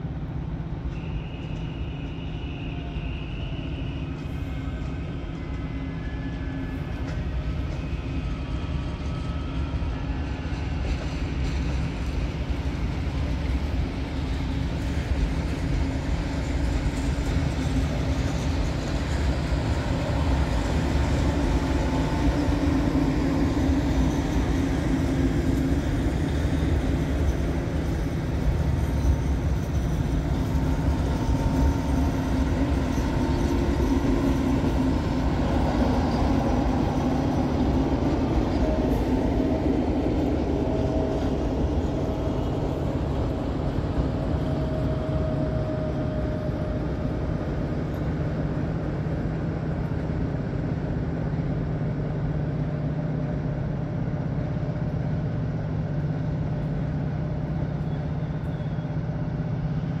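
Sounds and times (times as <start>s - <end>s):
train rolling past on rails: 0.0s - 60.0s.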